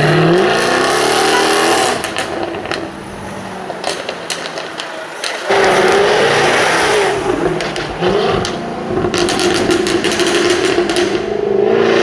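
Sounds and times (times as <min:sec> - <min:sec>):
car engine at high revs: 0:00.0 - 0:12.0
exhaust pops crackling: 0:00.0 - 0:12.0.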